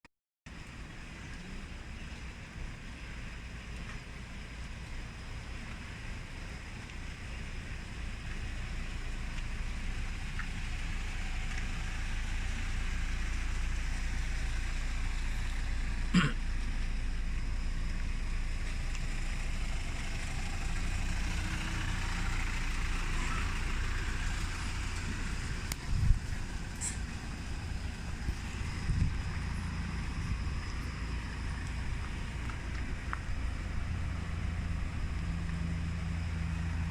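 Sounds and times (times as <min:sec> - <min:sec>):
low engine rumble: 0:00.5 - 0:36.9.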